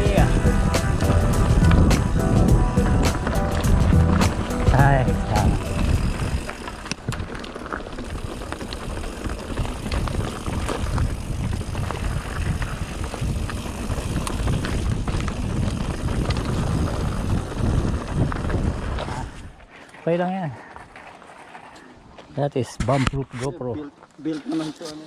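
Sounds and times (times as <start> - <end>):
wind and tyre rumble: 0.0 - 22.9
bike clicks and rattles: 0.1 - 22.4.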